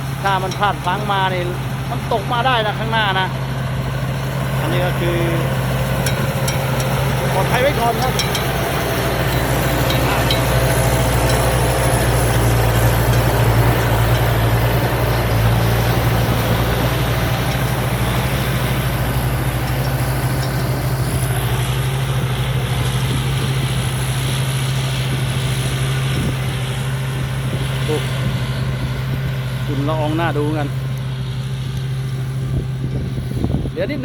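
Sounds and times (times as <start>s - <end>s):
harvester machinery clattering: 0.0s - 34.0s
low engine hum: 0.0s - 34.0s.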